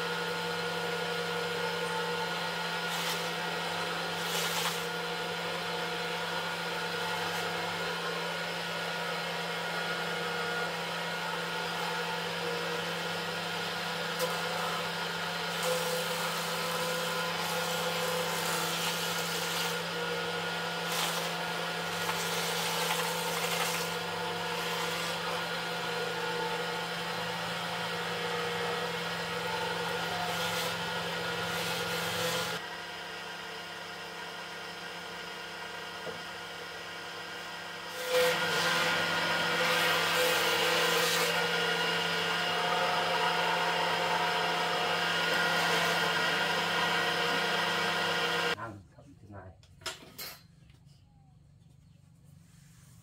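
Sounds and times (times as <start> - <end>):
woodworking machine humming: 0.0 - 48.6.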